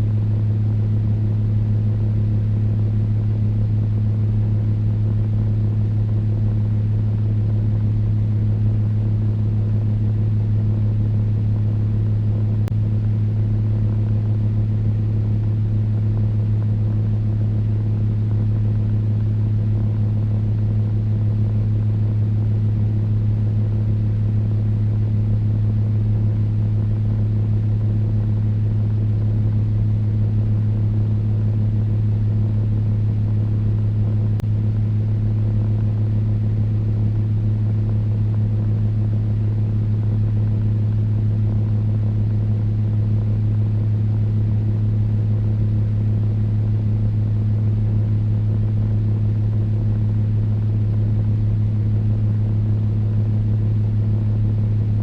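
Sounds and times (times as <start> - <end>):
electric fan humming: 0.0 - 55.0.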